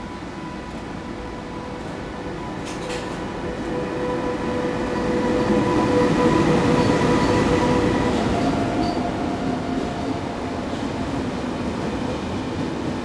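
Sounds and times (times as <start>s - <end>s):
locomotive whine: 0.0s - 10.8s
train rumble: 0.0s - 13.0s.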